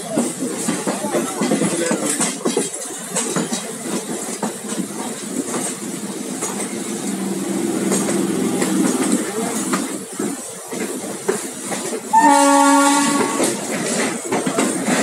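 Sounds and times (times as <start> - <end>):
passing train alongside: 0.0 - 15.0
train rolling noise: 0.0 - 15.0
wheels clicking over rail joints: 0.0 - 15.0.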